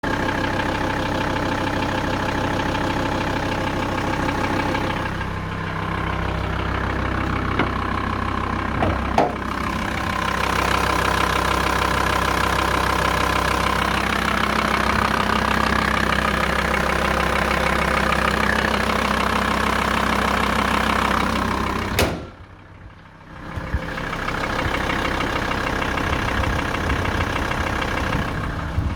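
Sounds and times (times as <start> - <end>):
van engine idling with rattle: 0.0 - 28.9.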